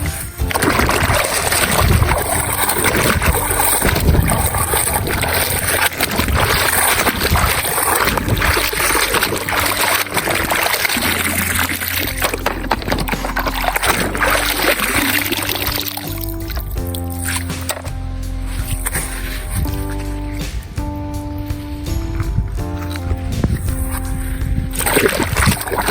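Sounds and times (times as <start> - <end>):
water splashing and trickling: 0.0 - 25.9.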